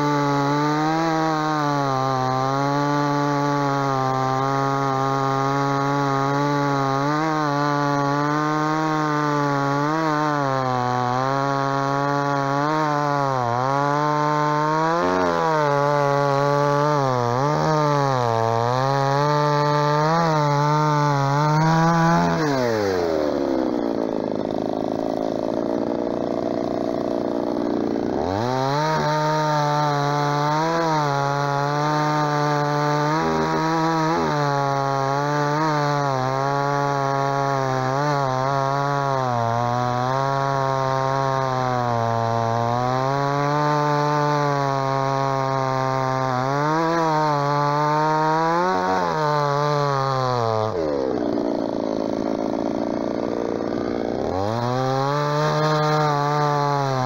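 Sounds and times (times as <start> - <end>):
chainsaw cutting log: 0.0 - 57.0
chainsaw idling: 0.0 - 57.0.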